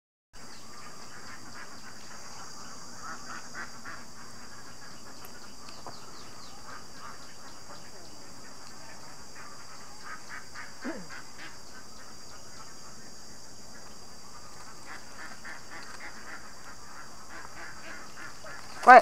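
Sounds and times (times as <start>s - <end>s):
steady high hiss: 0.4s - 19.0s
ducks quacking: 0.8s - 19.0s.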